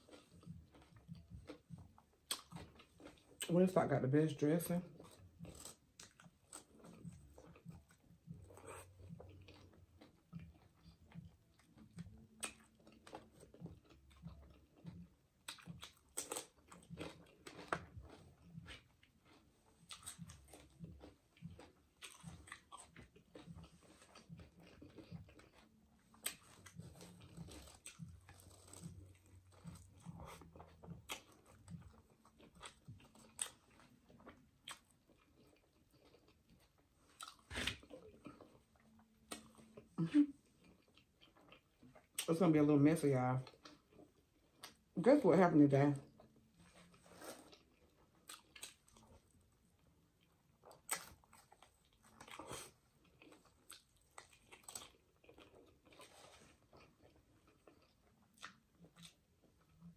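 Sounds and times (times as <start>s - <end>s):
person chewing food: 0.0s - 3.6s, 4.8s - 42.3s, 43.4s - 44.9s, 46.0s - 59.9s.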